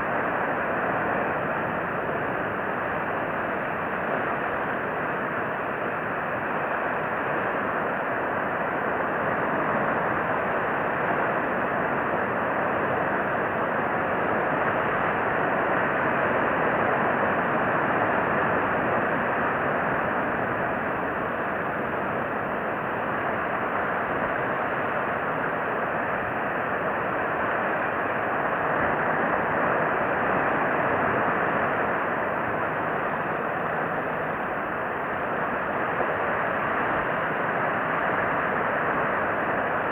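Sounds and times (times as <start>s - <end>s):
steady outdoor rushing noise: 0.0s - 39.9s.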